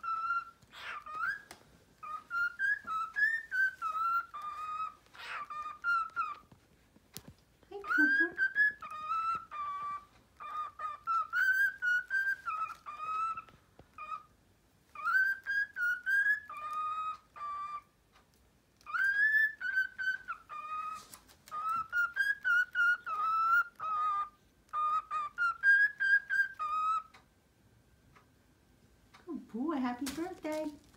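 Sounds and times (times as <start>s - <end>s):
cockatiel whistling: 0.0s - 6.6s, 7.8s - 18.0s, 18.8s - 27.2s.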